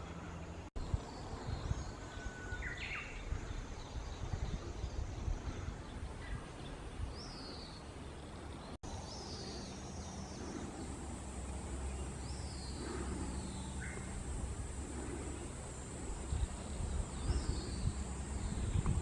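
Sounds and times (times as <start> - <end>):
low rumbling background: 3.0 - 19.0.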